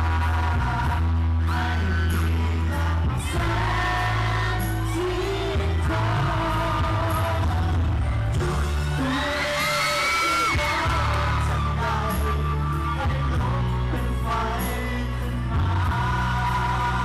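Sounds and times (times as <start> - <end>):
amplified backing music with bass: 0.0 - 17.0
man singing into microphone: 0.0 - 17.0.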